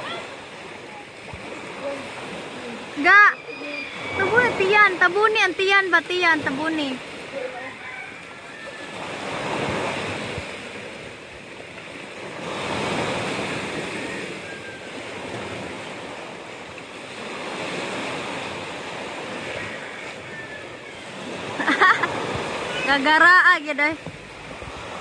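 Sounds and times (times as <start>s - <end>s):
sea waves breaking on beach: 0.0s - 25.0s.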